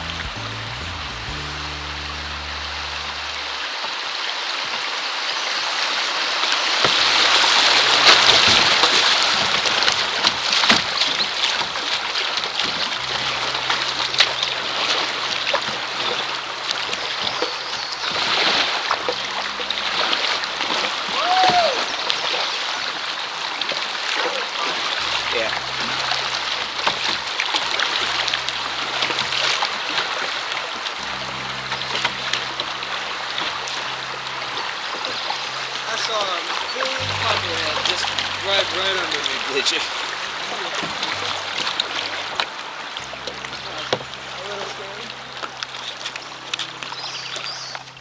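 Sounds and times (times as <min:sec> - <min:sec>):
rushing creek water: 0:00.0 - 0:48.0
paddle splashes: 0:02.2 - 0:48.0.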